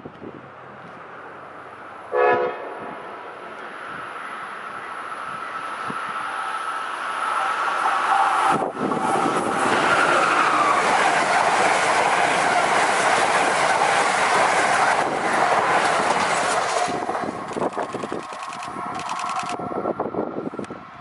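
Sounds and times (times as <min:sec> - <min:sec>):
passenger train rushing past: 0:00.3 - 0:21.0.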